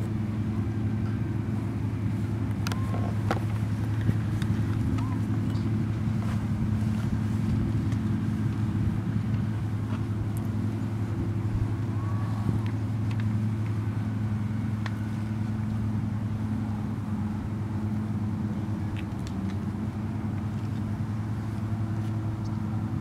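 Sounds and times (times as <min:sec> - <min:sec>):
idling motor hum: 0:00.0 - 0:23.0.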